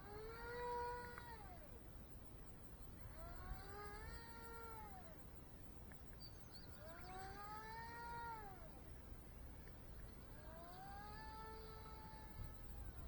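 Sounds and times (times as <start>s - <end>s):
faint model plane motor whine: 0.0s - 13.0s.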